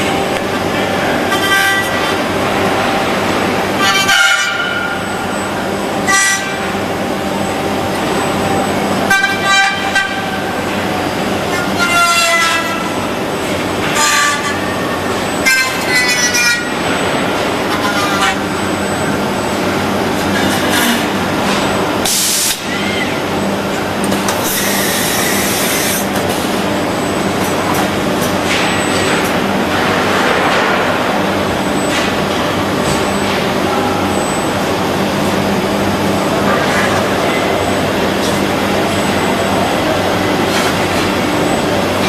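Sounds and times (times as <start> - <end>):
steady machine hum: 0.0 - 42.0.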